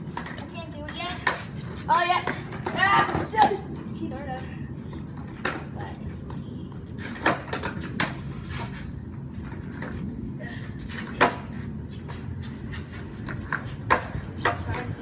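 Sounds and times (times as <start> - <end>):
skateboard clacks on concrete: 0.0 - 3.6, 5.1 - 10.1, 10.8 - 15.0.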